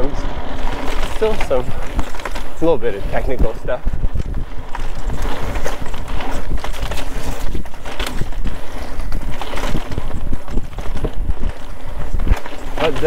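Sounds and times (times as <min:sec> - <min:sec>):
bike knocking and rattling: 0:00.0 - 0:13.0
bike tyres rolling on dirt: 0:00.0 - 0:13.0
wind buffeting microphone: 0:00.0 - 0:13.0.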